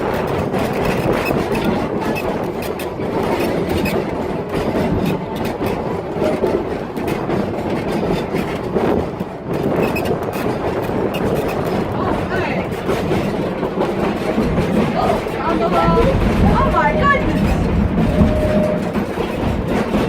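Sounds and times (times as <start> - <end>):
train car rumbling: 0.0 - 20.0
wheels clattering over rail joints: 0.0 - 20.0.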